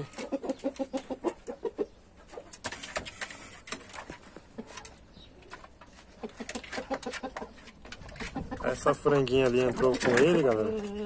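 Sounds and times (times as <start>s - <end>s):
chickens making soft calls: 0.0s - 9.2s.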